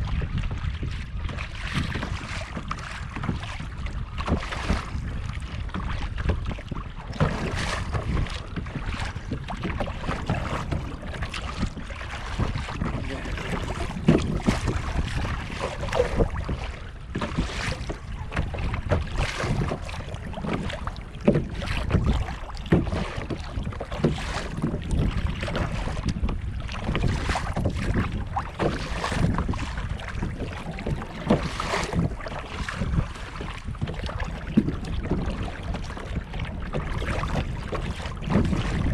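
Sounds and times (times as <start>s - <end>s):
kayak paddle splashing: 0.0s - 38.9s
wind buffeting microphone: 0.0s - 38.9s.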